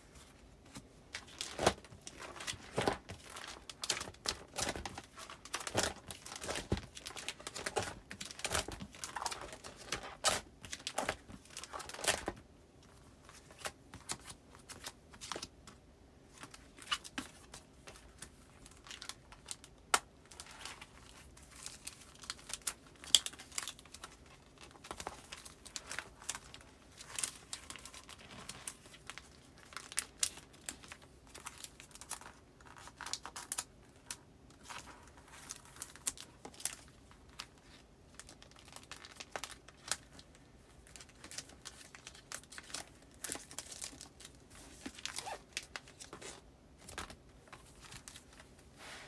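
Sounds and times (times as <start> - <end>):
paper rustling and crinkling: 0.0 - 15.5, 20.3 - 49.0.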